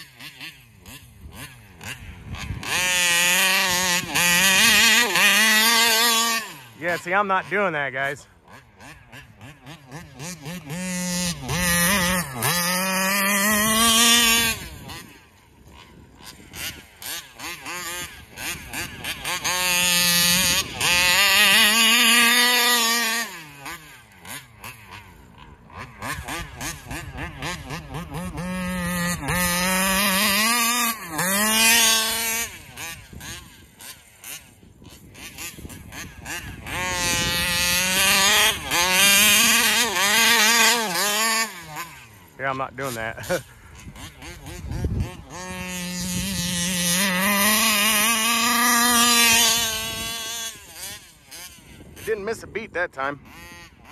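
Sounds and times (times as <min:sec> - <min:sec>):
rc car two-stroke engine passing: 0:00.0 - 0:53.9.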